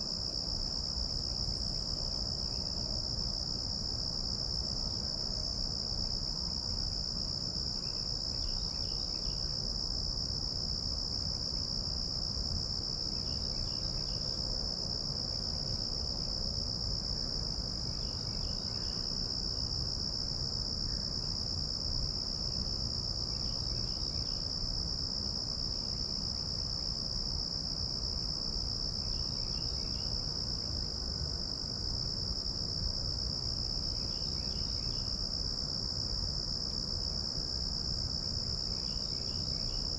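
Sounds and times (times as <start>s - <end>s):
insects trilling: 0.2s - 30.8s, 31.8s - 39.9s.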